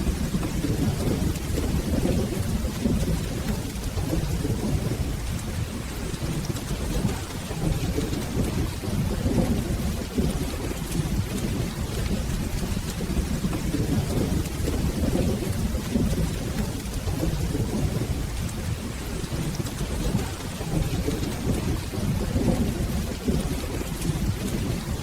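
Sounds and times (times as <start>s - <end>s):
rolling thunder: 0.0s - 25.0s
steady rain: 0.0s - 25.0s.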